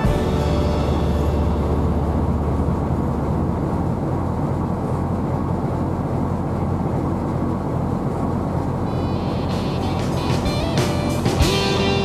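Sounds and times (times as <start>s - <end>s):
ship engine rumble: 0.0s - 12.0s
wind and sea noise: 0.0s - 12.0s.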